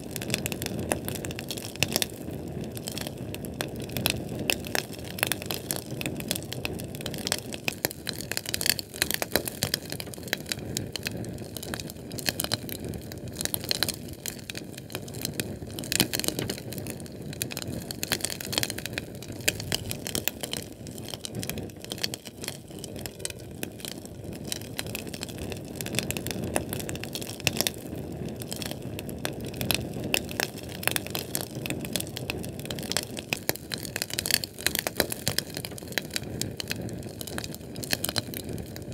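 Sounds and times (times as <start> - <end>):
canned fuel flame crackling: 0.0 - 38.9.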